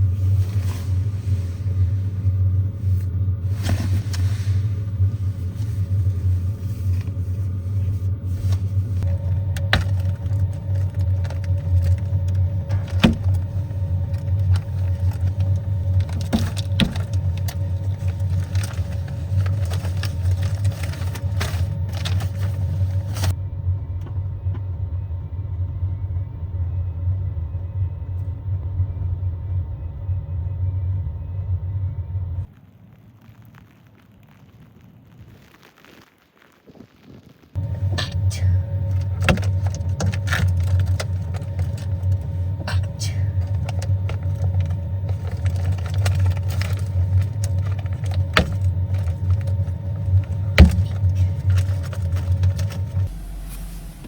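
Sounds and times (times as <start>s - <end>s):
van engine rumbling: 0.0s - 32.6s, 37.5s - 54.0s.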